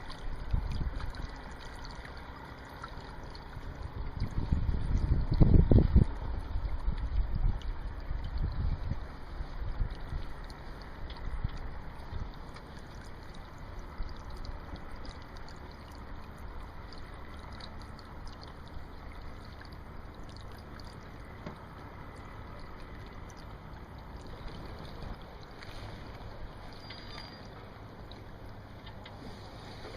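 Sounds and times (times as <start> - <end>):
low rumble: 0.0 - 29.9
water noise from boat: 0.0 - 29.9
wind: 0.0 - 29.9.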